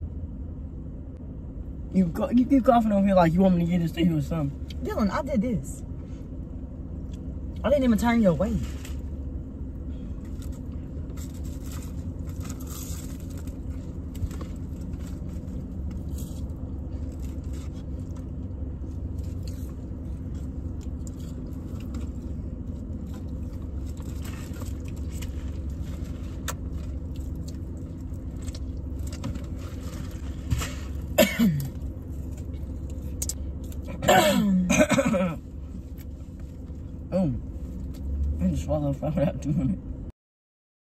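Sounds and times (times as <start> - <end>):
air conditioning hum: 0.0 - 40.1
car engine idling: 0.0 - 40.1.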